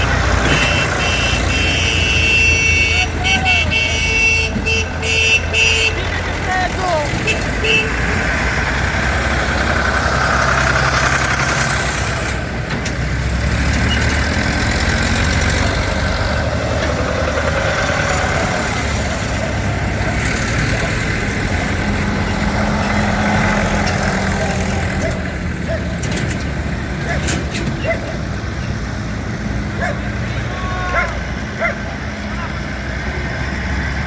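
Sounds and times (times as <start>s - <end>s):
tractor engines running: 0.0s - 34.0s.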